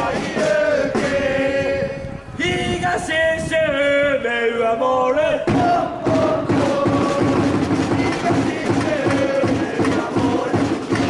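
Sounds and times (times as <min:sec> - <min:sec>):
football supporters chanting: 0:00.0 - 0:03.1, 0:05.0 - 0:11.0.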